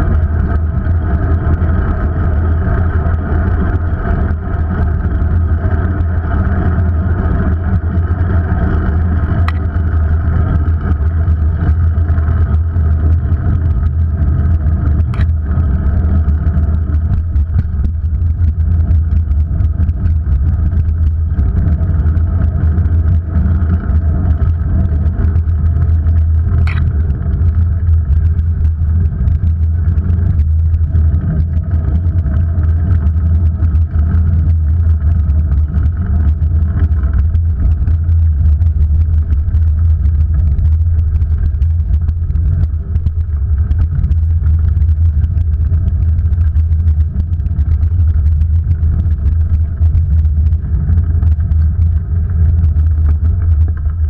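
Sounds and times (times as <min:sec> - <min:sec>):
road and wind noise: 0:00.0 - 0:54.0.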